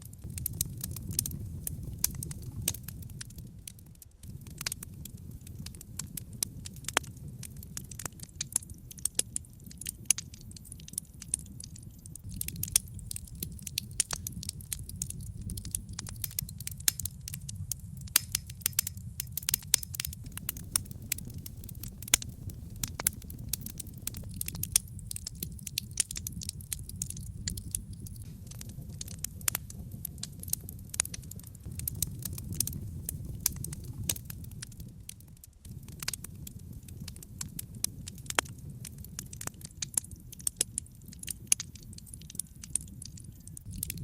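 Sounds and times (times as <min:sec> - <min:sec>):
logs burning with crackles: 0:00.0 - 0:44.0.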